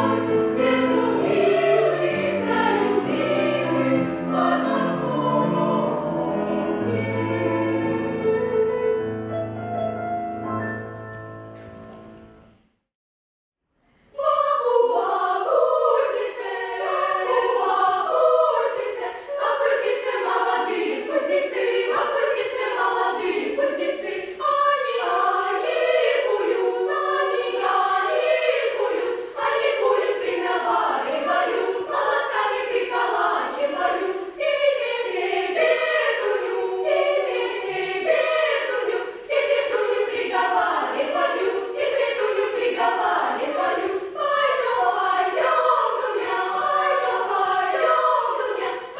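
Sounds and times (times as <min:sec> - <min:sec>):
children's choir singing: 0:00.0 - 0:09.0, 0:14.0 - 0:48.9.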